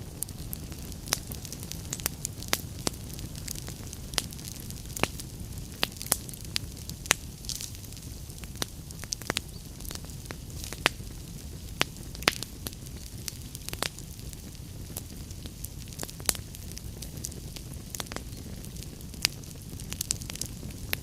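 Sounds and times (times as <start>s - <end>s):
low rumble of flame: 0.0s - 21.0s
wood fire crackling: 0.0s - 21.0s.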